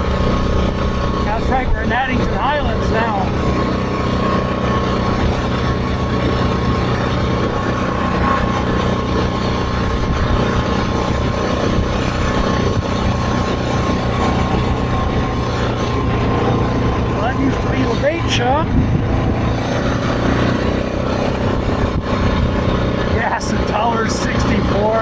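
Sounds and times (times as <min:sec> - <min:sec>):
atv engine running: 0:00.0 - 0:25.0
high whine: 0:00.0 - 0:25.0
road and wind noise: 0:00.0 - 0:25.0.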